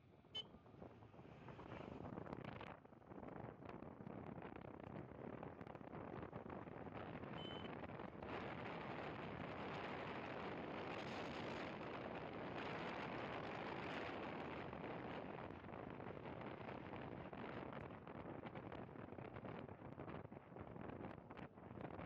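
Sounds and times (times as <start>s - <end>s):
motorcycle road noise: 0.2s - 22.0s.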